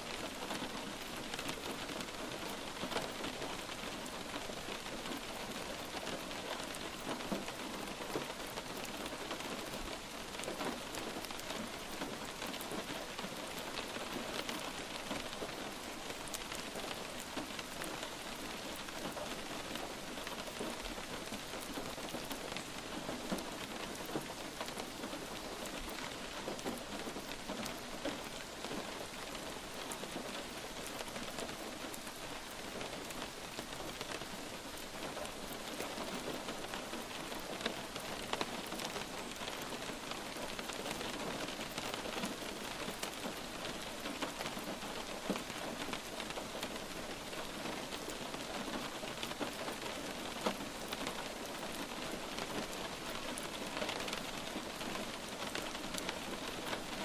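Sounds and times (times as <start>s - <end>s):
light rain falling: 0.0s - 57.0s
raindrops pattering on a surface: 0.0s - 57.0s.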